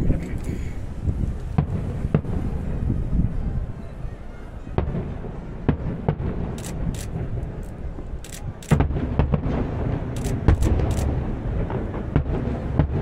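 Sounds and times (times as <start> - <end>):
fireworks booming: 0.0 - 3.8, 4.7 - 13.0
fireworks crackling: 0.0 - 3.8, 4.8 - 13.0.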